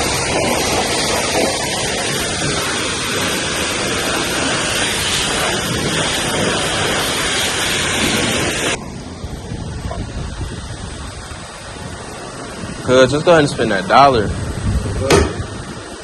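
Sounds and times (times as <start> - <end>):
loud steady rushing hiss: 0.0 - 16.0.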